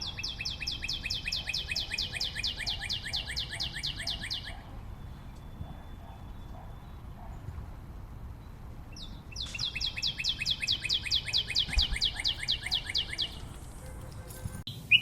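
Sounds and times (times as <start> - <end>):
songbird trilling: 0.0 - 7.5, 8.2 - 13.8.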